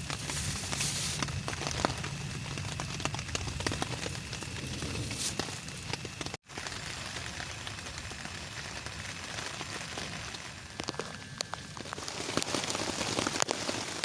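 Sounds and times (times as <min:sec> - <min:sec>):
raindrops striking close by: 0:00.0 - 0:14.0
steady rain falling: 0:00.0 - 0:14.0.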